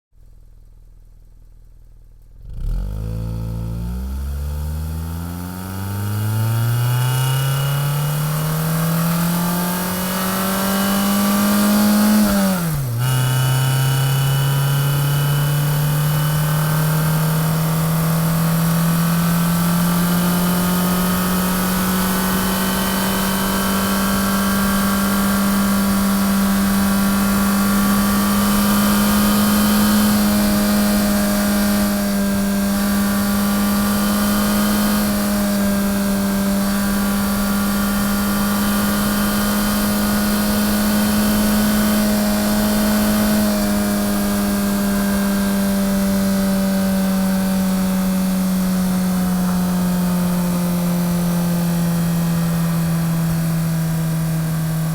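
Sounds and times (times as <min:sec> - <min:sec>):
motorcycle engine accelerating: 0:02.3 - 0:54.9.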